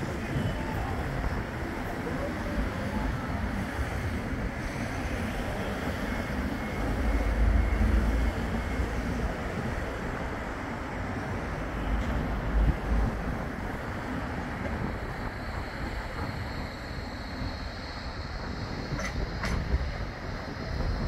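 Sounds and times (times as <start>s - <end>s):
tram electric whine: 0.0s - 21.0s
wind buffeting microphone: 0.0s - 21.0s.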